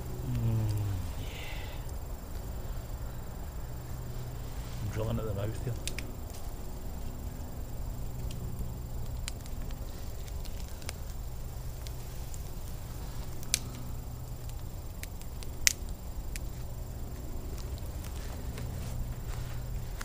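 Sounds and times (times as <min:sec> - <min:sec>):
campfire crackling: 0:00.0 - 0:20.0
low steady rumble: 0:00.0 - 0:20.0
sharp fire pops: 0:04.0 - 0:20.0.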